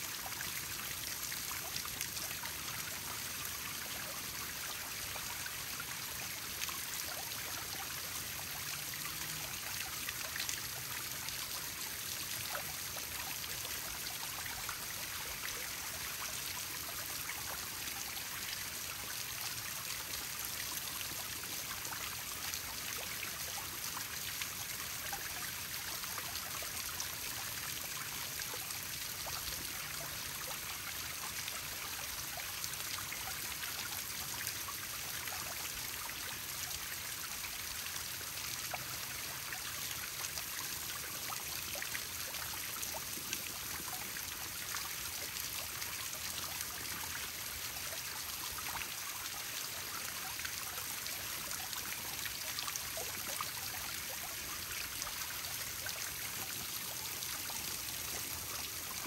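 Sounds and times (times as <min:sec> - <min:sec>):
small waterfall splashing into pond: 0:00.0 - 0:59.0.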